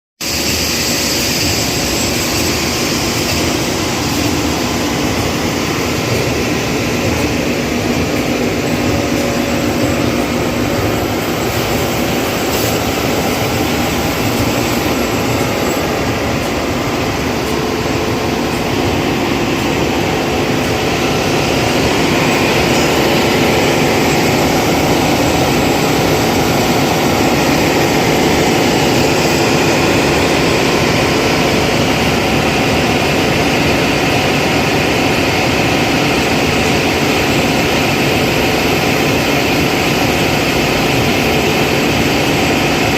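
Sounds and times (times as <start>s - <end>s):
sanding machine running: 0.2s - 42.9s.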